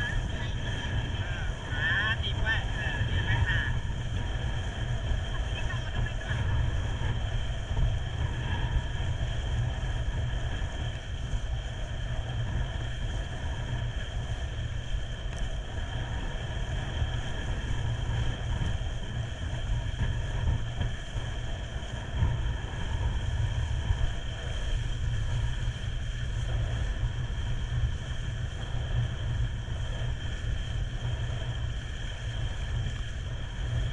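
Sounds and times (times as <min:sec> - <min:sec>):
boat engine running: 0:00.0 - 0:33.9
faint steady whine: 0:00.0 - 0:33.9
wind rumble on microphone: 0:00.0 - 0:33.9.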